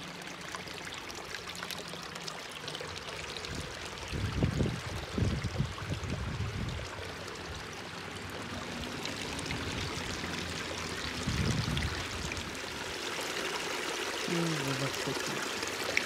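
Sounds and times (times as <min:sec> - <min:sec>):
water trickling through channel: 0:00.0 - 0:16.0.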